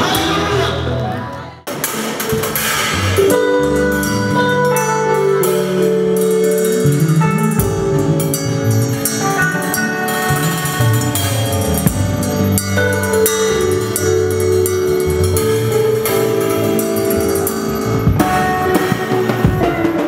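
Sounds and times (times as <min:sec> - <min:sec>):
instrumental band music: 0:00.0 - 0:20.0.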